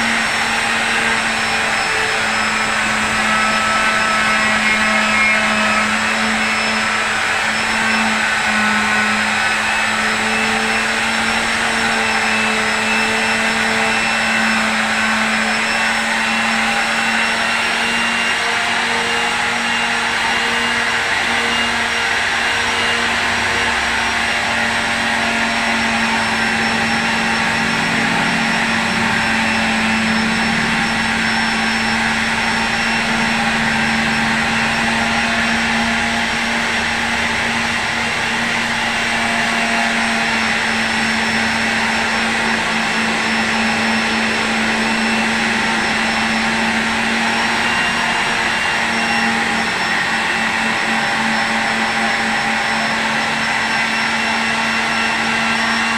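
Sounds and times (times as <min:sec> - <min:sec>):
power tool motor whirring: 0:00.0 - 0:55.9.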